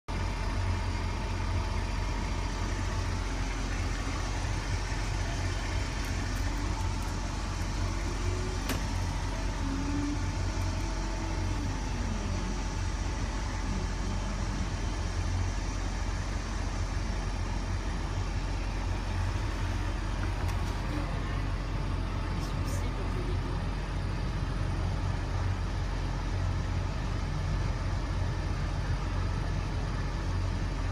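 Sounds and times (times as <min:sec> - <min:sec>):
bus engine idling: 0:00.0 - 0:30.9.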